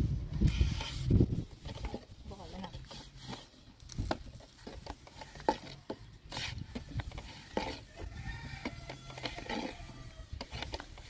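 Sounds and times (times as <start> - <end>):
rolling pin on dough: 0.5 - 11.0.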